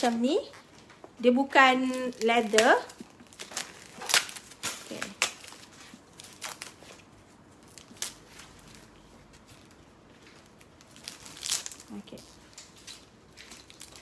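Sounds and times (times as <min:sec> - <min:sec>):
packing paper crinkling: 0:01.7 - 0:14.0.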